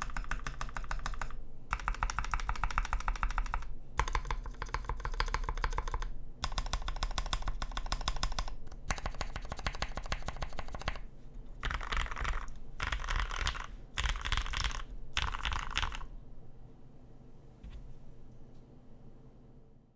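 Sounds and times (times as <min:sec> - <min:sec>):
typing on a mechanical keyboard: 0:00.0 - 0:16.1.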